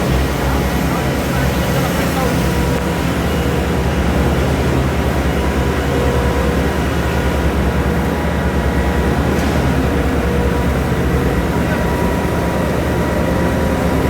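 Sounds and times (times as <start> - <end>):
heavy engine humming: 0.0 - 14.0.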